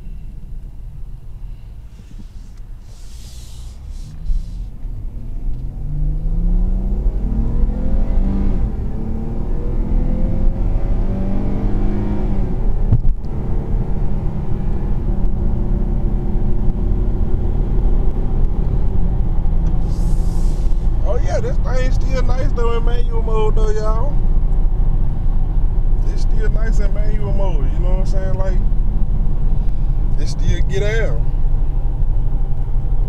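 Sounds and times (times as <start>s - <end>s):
low road rumble: 0.0s - 33.0s
car engine accelerating: 1.8s - 33.0s.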